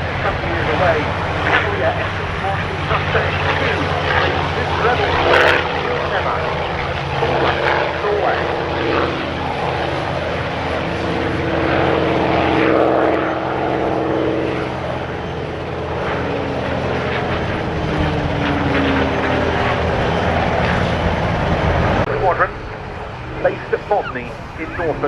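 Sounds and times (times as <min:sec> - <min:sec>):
aircraft engine running: 0:00.0 - 0:25.0.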